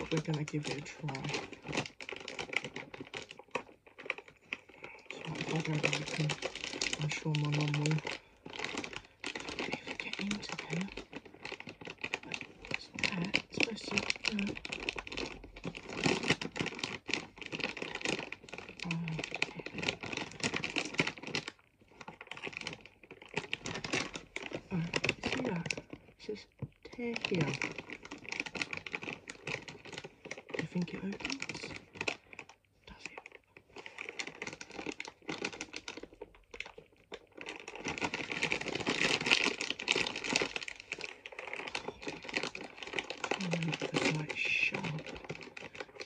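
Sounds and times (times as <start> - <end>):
plastic crisp packet crinkling: 0.0 - 46.0.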